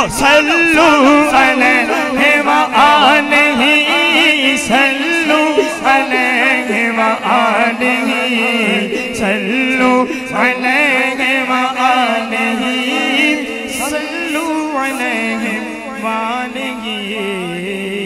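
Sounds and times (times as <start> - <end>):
held vocal drone: 0.0 - 18.0
man singing through microphone: 0.0 - 18.0.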